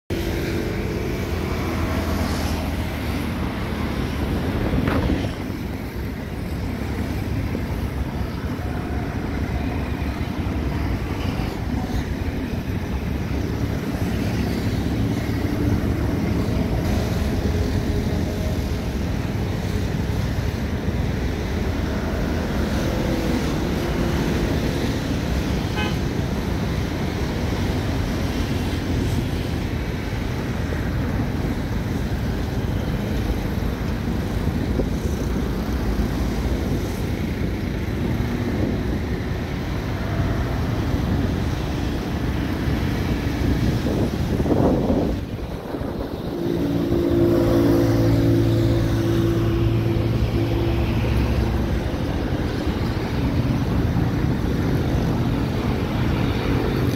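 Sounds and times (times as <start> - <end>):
distant engines rumbling: 0.1 - 56.9.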